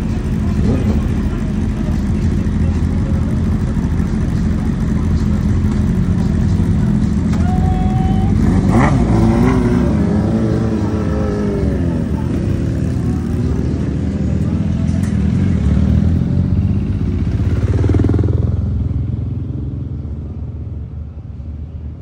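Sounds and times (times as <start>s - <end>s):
motorcycle engine revving: 0.0s - 20.9s
motorcycle engines idling: 0.0s - 22.0s.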